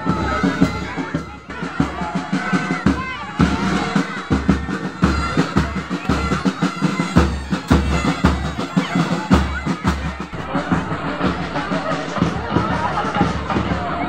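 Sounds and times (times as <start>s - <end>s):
bagpipes: 0.0s - 14.0s
bass drum beat: 0.0s - 14.0s
snare drums: 0.0s - 14.0s.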